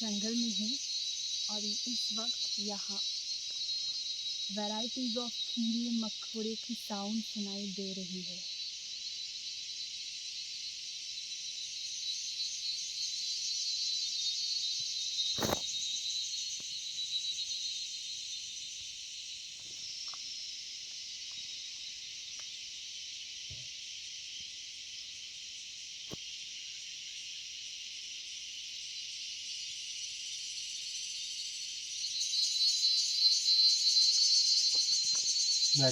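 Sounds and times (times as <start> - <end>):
crickets and insects trilling: 0.0 - 35.9.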